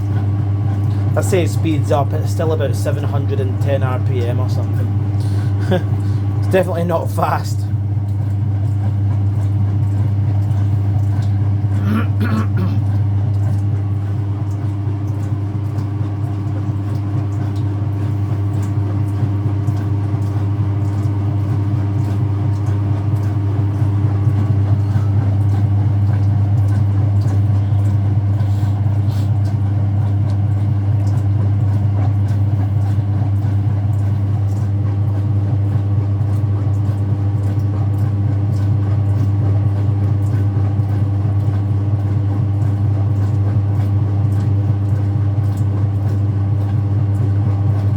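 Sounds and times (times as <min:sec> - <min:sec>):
washing machine spinning: 0:00.0 - 0:47.9.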